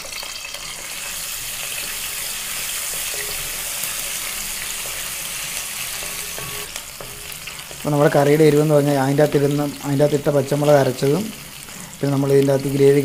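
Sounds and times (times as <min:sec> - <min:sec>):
garlic and ginger sizzling in oil: 0:00.0 - 0:13.0.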